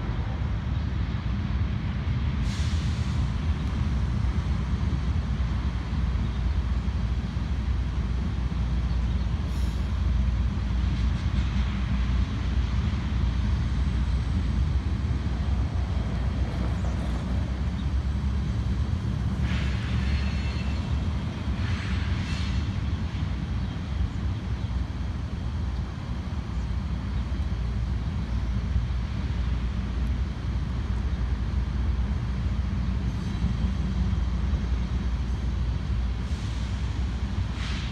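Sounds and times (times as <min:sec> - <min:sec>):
distant freight train rumble: 0:00.0 - 0:37.9.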